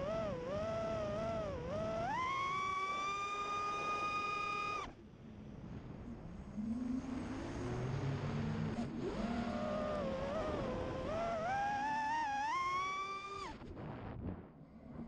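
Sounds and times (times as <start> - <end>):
drone motors whining: 0.0 - 5.0, 6.5 - 13.7.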